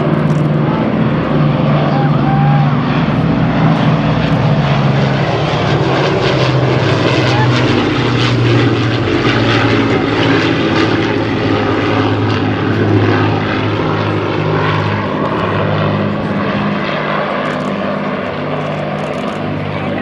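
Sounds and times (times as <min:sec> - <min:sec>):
aircraft piston engines droning: 0:00.0 - 0:20.0.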